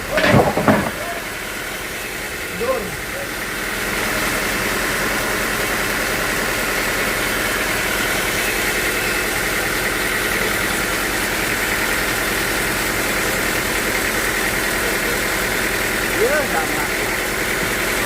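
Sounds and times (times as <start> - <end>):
sawmill machinery drone: 0.0 - 18.0.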